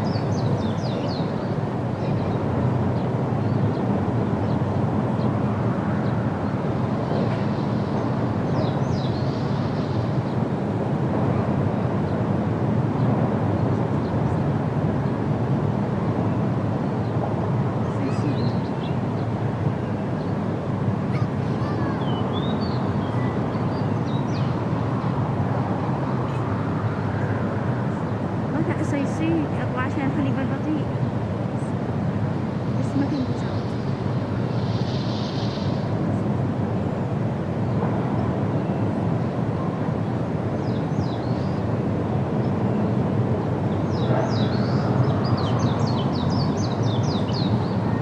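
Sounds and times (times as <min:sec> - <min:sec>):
low rumble of outdoor noise: 0:00.0 - 0:48.0.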